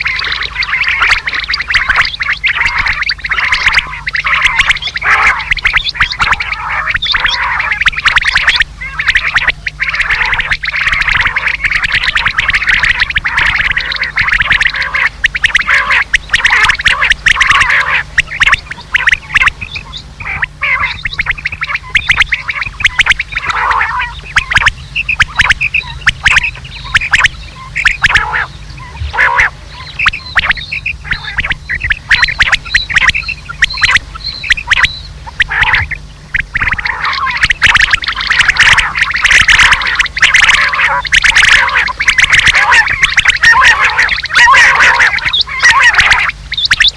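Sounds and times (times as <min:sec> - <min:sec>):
low hum: 0:00.0 - 0:46.9
quail calls chirping: 0:00.0 - 0:46.9.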